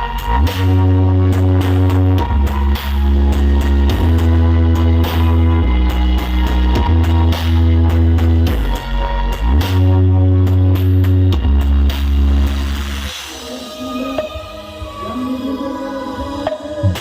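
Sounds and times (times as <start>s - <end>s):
heavy sliding bass notes: 0.0s - 17.0s
loud music with guitar: 0.0s - 17.0s.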